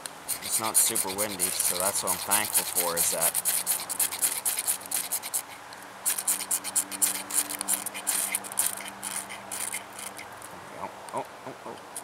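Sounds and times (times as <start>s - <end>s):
tinder scraping: 0.0s - 10.7s.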